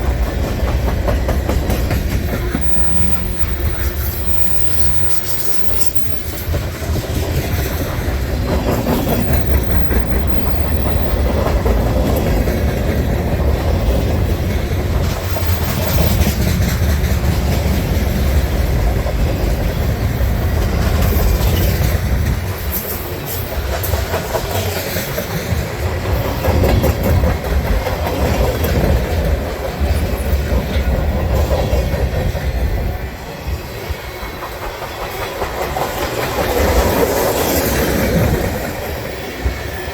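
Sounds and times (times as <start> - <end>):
freight train rumbling past: 0.0 - 39.9
steel wheels clacking over rail joints: 0.0 - 39.9.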